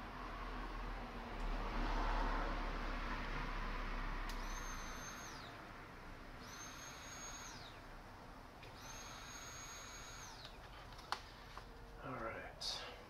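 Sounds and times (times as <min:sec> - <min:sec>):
fuel pump whine: 0:00.0 - 0:12.9.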